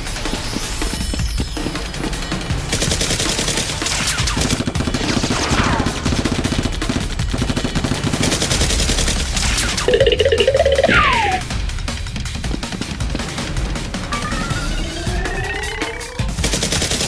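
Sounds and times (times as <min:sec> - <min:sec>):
background music: 0:00.0 - 0:17.0
rapid gunfire bursts: 0:00.0 - 0:17.0.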